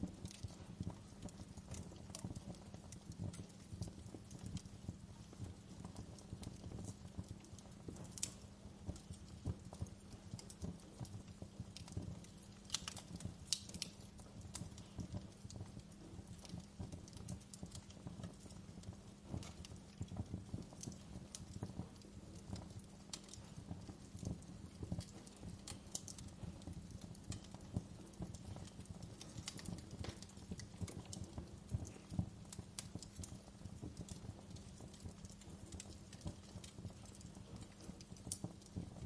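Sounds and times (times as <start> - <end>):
low rumble of fire: 0.0 - 39.0
wood fire crackling: 0.0 - 39.0.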